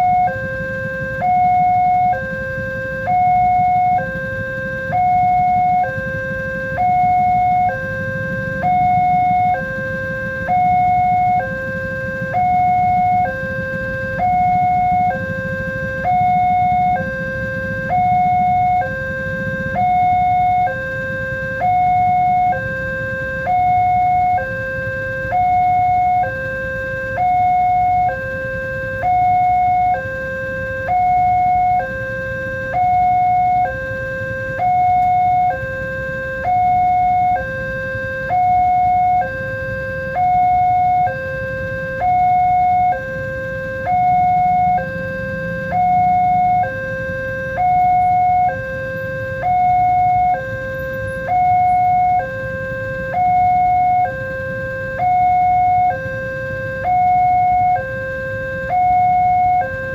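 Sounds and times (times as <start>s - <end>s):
two-tone warning alarm: 0.0s - 59.9s.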